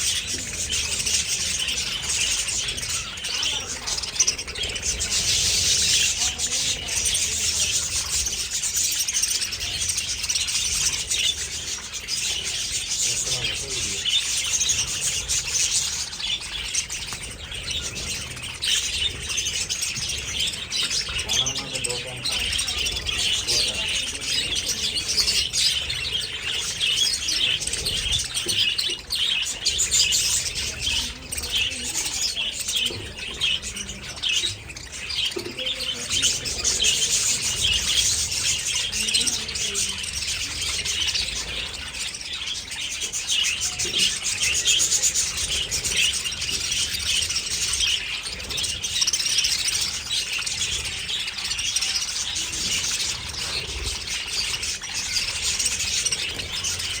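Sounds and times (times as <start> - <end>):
flock of budgerigars chattering: 0.0 - 57.0.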